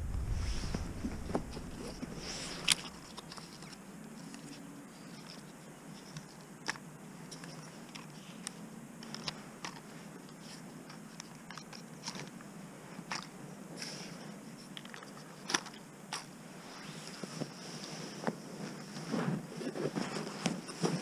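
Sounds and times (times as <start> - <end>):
rustle: 0.0 - 21.0.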